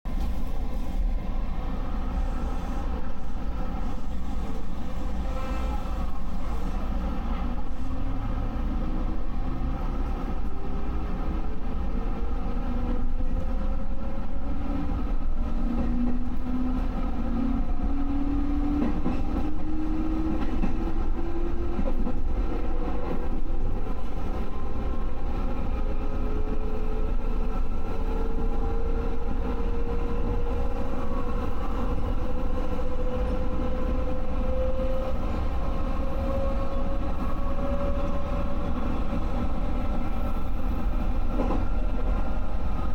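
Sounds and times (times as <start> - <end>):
wheels rumbling on rail: 0.1 - 42.9.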